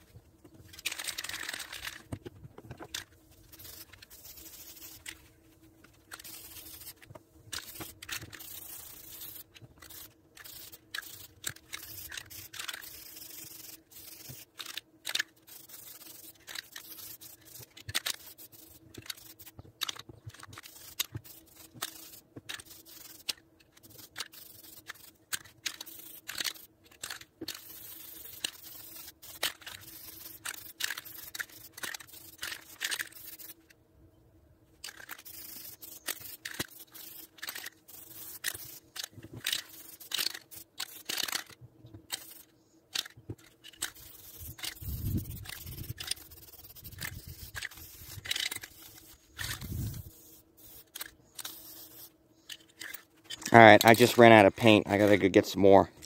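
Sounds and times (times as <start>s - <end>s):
spray paint can hissing: 0.7s - 2.0s, 3.0s - 5.3s, 6.1s - 33.6s, 34.8s - 54.2s.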